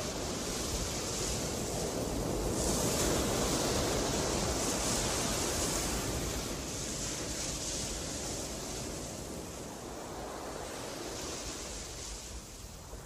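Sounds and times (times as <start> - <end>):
sea waves washing onto shore: 0.0 - 13.0.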